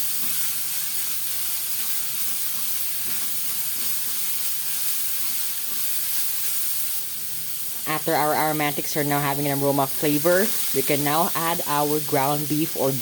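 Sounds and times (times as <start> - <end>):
garlic and onions sizzling in oil: 0.0 - 13.0.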